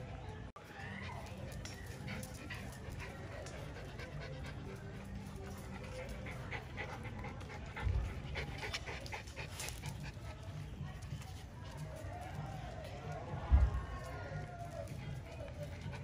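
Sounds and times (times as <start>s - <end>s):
dogs panting: 0.9s - 12.5s, 14.4s - 16.0s.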